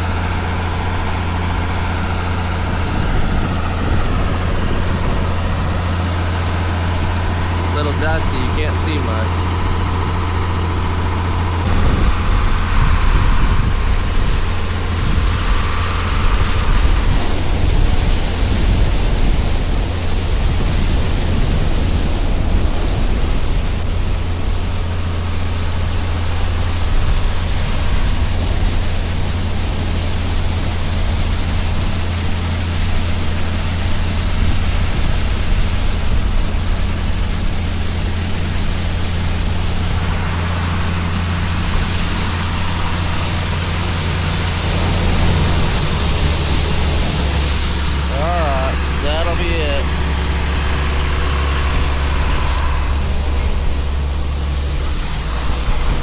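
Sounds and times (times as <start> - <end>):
loud rushing hiss: 0.0 - 56.0
low engine drone: 0.0 - 56.0.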